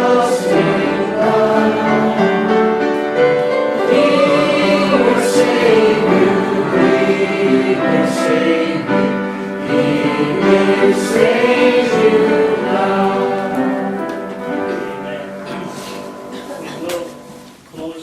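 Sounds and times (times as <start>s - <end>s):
group singing a hymn: 0.0s - 17.4s.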